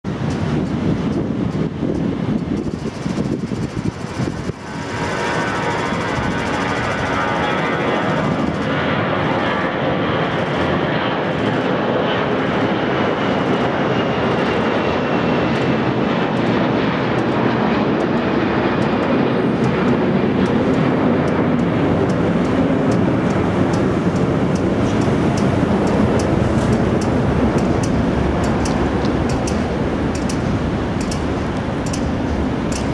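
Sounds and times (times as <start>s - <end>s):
jet engines roaring: 0.1s - 32.9s.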